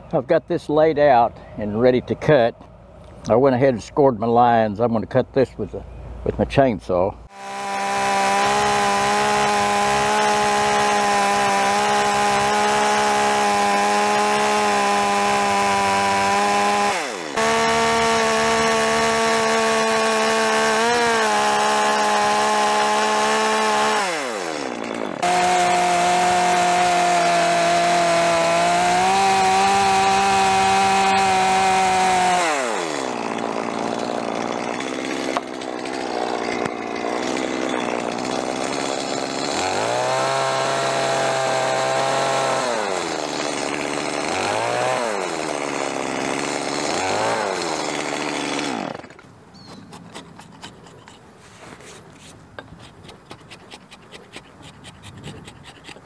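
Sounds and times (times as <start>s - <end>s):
chainsaw cutting timber: 7.3s - 56.0s.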